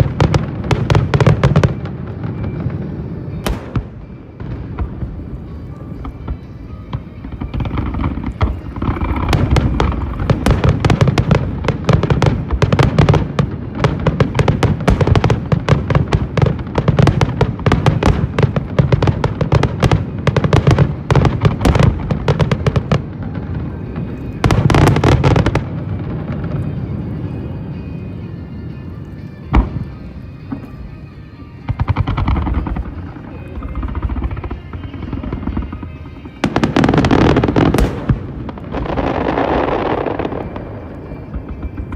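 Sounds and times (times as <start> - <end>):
aerial fireworks bursting: 0.0 - 28.0, 28.6 - 41.9.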